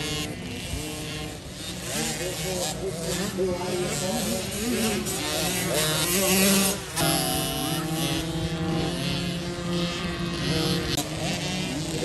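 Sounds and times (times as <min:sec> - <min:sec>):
motocross bikes racing: 0:00.0 - 0:12.0.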